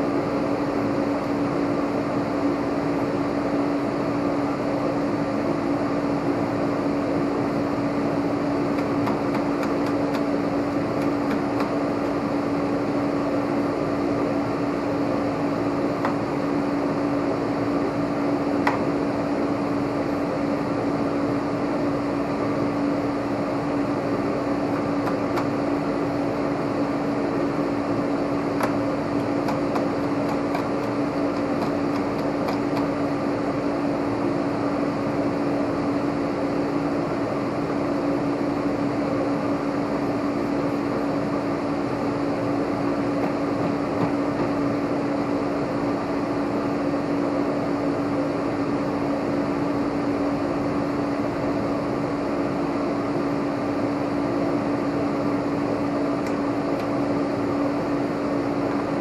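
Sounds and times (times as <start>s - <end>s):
machine hum with steady tone: 0.0s - 59.0s.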